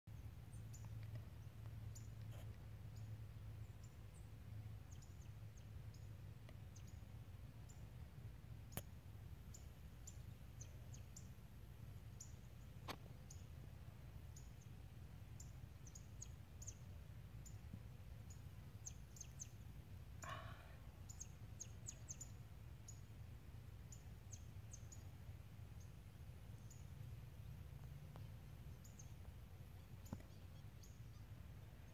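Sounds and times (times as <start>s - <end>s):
faint low rumble: 0.1s - 31.9s.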